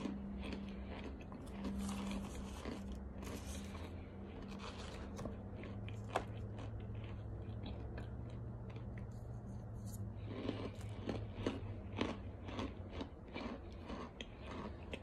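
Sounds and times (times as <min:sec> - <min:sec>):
crunchy food being chewed: 0:00.0 - 0:15.0.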